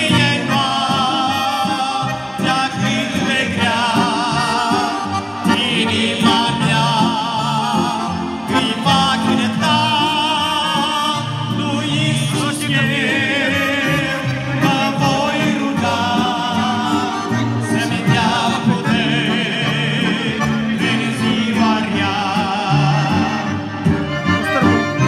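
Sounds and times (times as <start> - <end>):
instrumental backing with bass line: 0.0 - 25.0
man singing with vibrato: 0.0 - 25.0.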